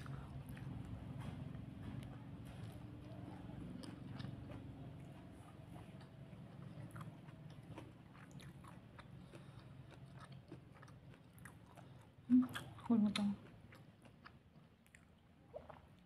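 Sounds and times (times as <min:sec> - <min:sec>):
chewing food: 0:00.0 - 0:16.0
low steady hum: 0:00.0 - 0:16.0.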